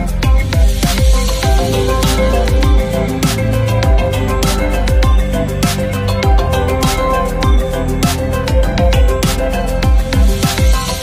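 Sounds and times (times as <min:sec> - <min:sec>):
electronic music with beat: 0:00.0 - 0:11.0
deep kick drum: 0:00.2 - 0:11.0.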